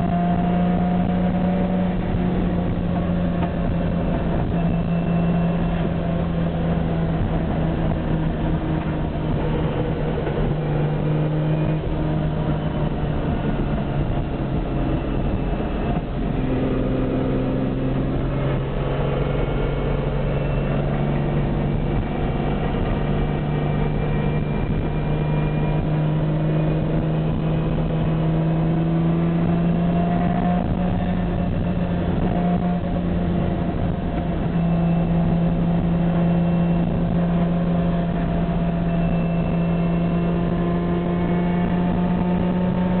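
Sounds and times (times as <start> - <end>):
car engine from inside cabin: 0.0 - 43.0.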